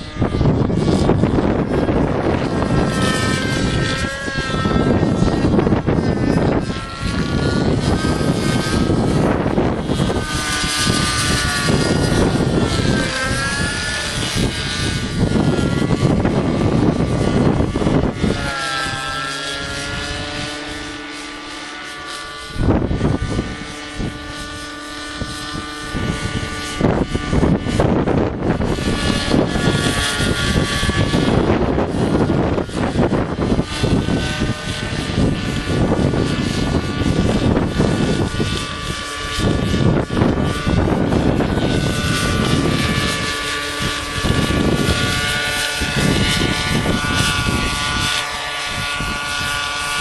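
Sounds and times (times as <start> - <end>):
model helicopter engine: 0.0 - 50.0
wind buffeting microphone: 0.0 - 50.0.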